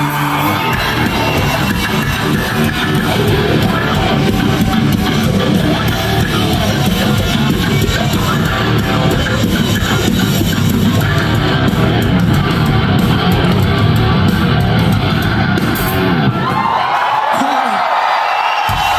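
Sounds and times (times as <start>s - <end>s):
rock band playing: 0.0s - 18.9s.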